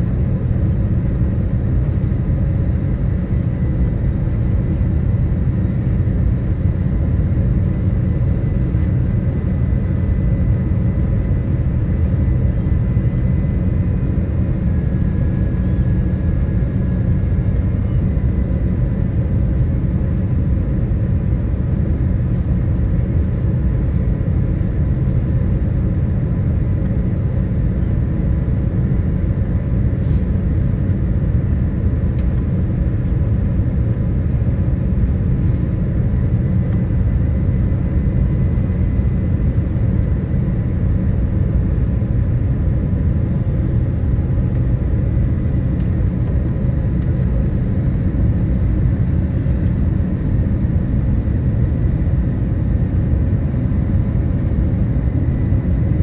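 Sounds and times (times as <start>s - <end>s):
low rumble of engines and airflow: 0.0s - 56.0s.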